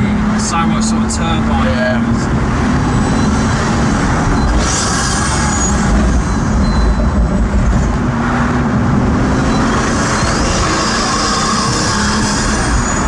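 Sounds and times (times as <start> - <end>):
car engine drone in cabin: 0.0 - 13.0.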